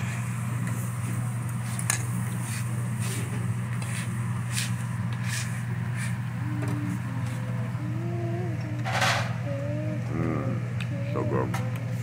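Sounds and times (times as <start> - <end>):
dining room background hum: 0.0 - 12.0.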